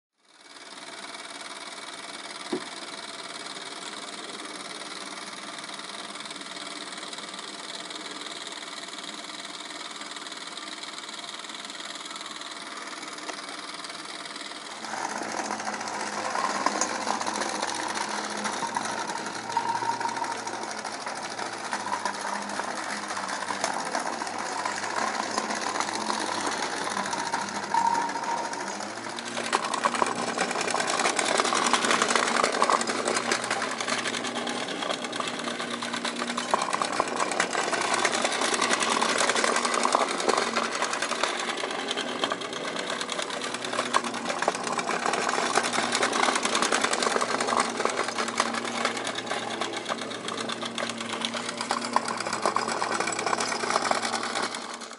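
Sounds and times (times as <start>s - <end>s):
model steam engine chuffing: 0.2s - 54.9s.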